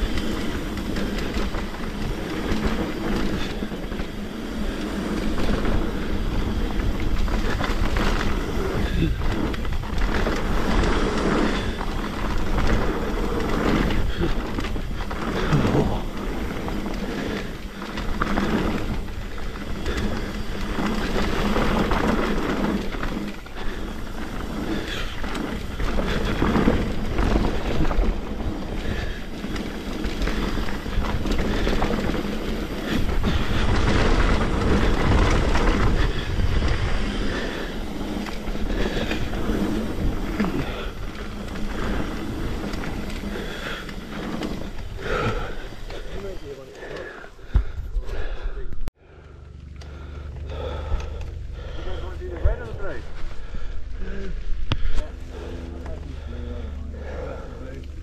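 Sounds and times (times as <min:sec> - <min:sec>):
wind rush: 0:00.0 - 0:49.0
bike rattling and knocking: 0:00.0 - 0:58.0
tyre noise on trail: 0:00.0 - 0:58.0.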